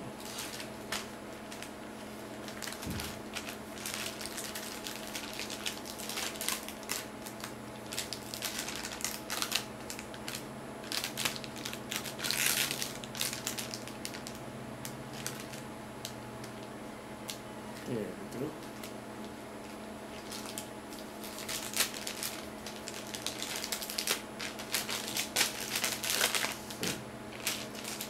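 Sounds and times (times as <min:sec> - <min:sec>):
plastic bag crinkling: 0:00.0 - 0:15.7, 0:19.6 - 0:28.0
steady low hum: 0:00.0 - 0:28.0.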